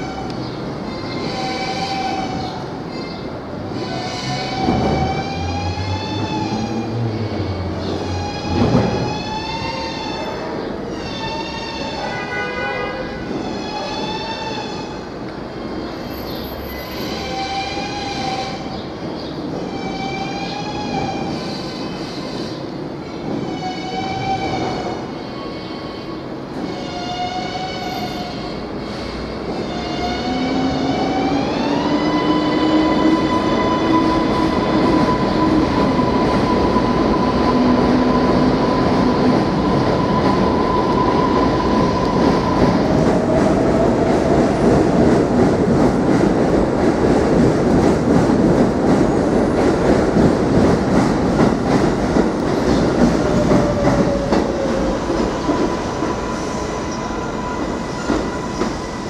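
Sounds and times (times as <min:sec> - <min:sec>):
subway train propulsion whining: 0:00.0 - 0:59.0.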